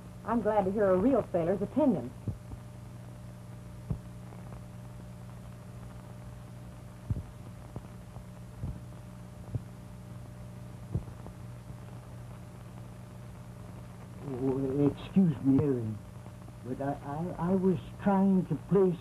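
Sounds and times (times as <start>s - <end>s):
film soundtrack hum: 0.0s - 19.0s.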